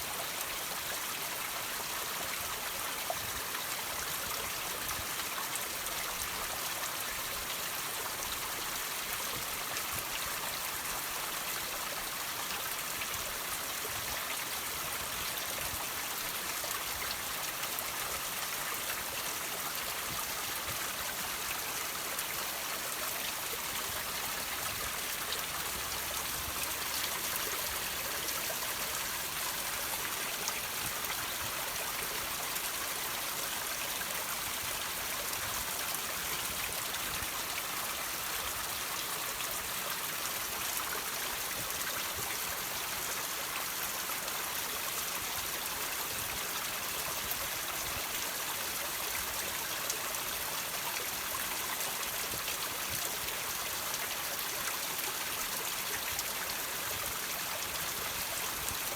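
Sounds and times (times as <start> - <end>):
water trickling over rocks: 0.0 - 58.9.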